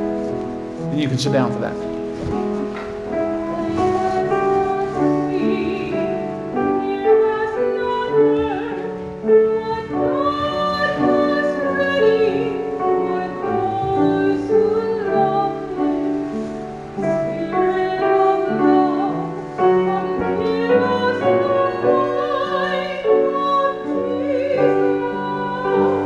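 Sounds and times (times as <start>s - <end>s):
piano accompaniment: 0.0s - 26.0s
woman singing with vibrato: 3.2s - 16.4s, 17.0s - 26.0s.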